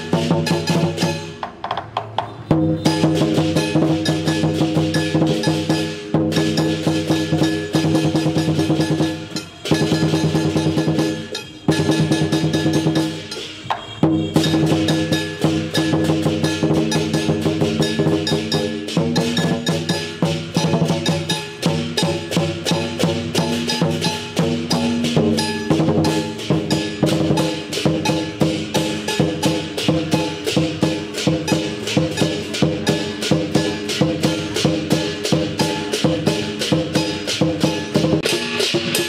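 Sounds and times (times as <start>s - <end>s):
clashing cymbals: 0.0s - 1.4s, 2.3s - 39.0s
large drum beaten rapidly: 0.0s - 39.0s.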